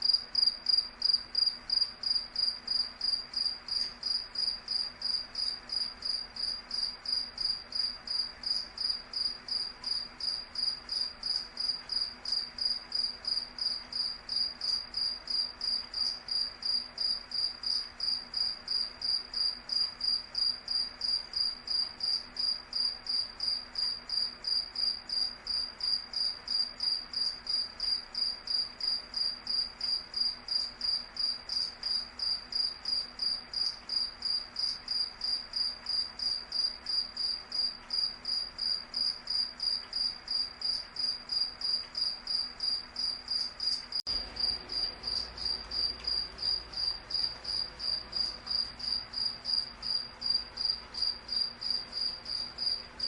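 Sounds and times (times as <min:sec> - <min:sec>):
cricket chirping: 0:00.0 - 0:53.0
faint background hiss: 0:00.0 - 0:53.0.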